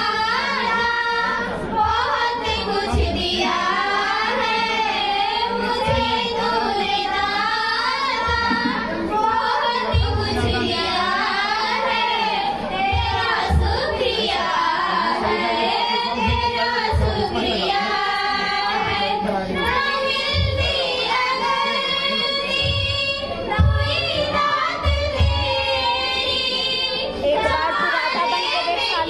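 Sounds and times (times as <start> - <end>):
girls singing in unison: 0.0 - 29.0.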